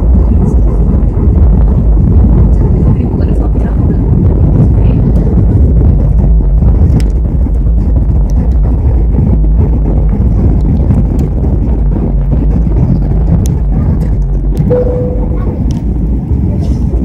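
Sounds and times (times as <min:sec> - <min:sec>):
airliner cabin low roar: 0:00.0 - 0:17.0.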